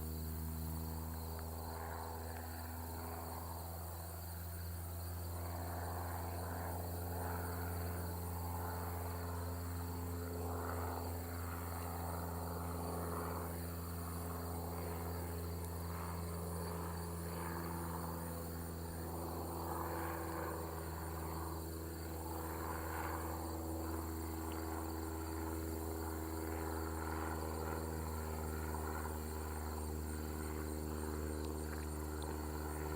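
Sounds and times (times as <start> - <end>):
crickets chirping: 0.0 - 32.9
distant propeller engine droning: 0.0 - 32.9.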